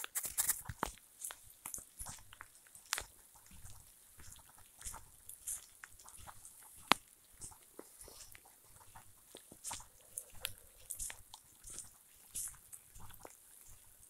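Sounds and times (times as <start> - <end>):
bare footsteps on dry leaves: 0.0 - 13.4.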